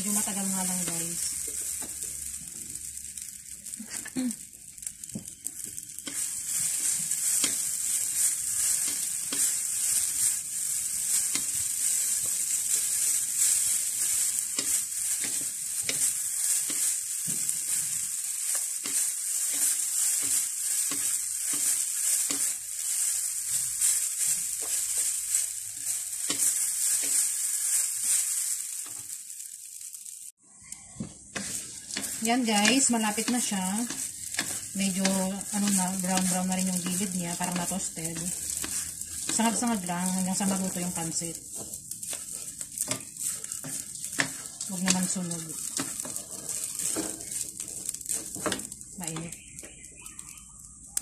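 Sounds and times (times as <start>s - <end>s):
noodles sizzling in a wok: 0.0s - 51.0s
spatula scraping and tapping pan: 4.7s - 29.2s, 31.0s - 50.3s.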